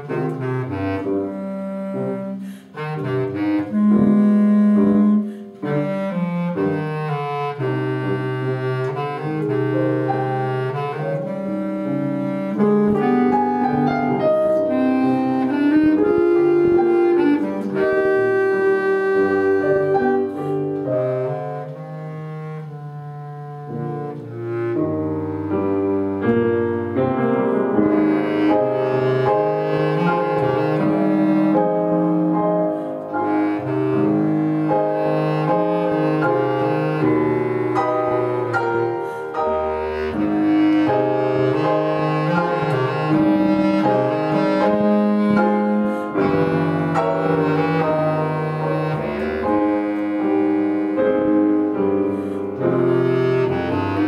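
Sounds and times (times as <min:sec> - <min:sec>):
bass clarinet melody: 0:00.0 - 0:54.0
grand piano accompaniment: 0:00.0 - 0:54.0.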